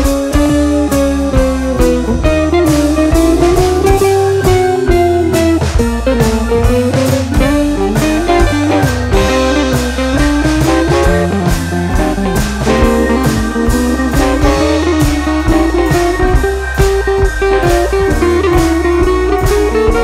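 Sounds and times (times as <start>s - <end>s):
blues guitar tune: 0.0s - 20.0s
drum kit steady beat: 0.0s - 20.0s.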